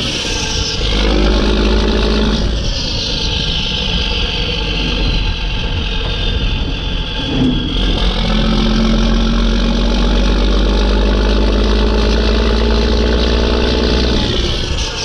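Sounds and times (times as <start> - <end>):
diesel engine running under load: 0.0 - 15.0
high turbo whistle: 0.0 - 15.0.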